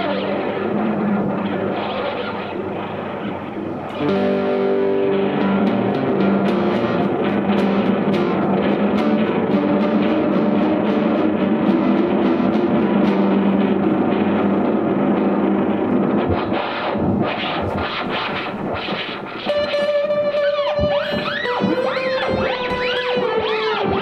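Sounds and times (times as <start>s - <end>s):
distorted slide guitar with delay: 0.0s - 24.0s.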